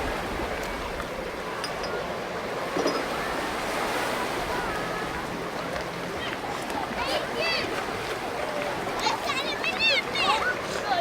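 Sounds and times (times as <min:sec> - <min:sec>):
surf washing on shore: 0:00.0 - 0:11.0.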